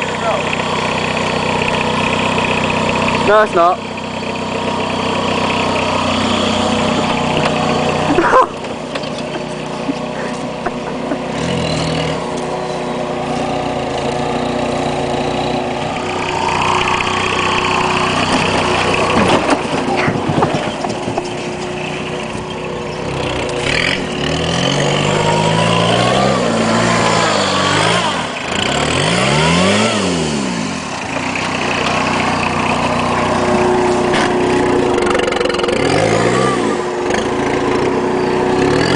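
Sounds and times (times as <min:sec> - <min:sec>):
diesel car engine under load: 0:00.0 - 0:38.9.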